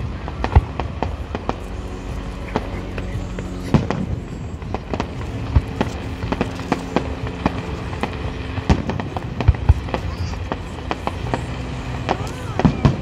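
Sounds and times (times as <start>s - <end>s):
fireworks bangs and crackles: 0.0s - 13.0s
heavy firework booms: 2.5s - 13.0s.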